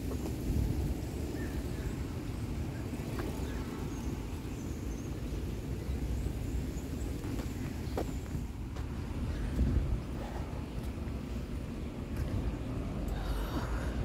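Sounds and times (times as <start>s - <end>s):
low street rumble: 0.0s - 14.0s.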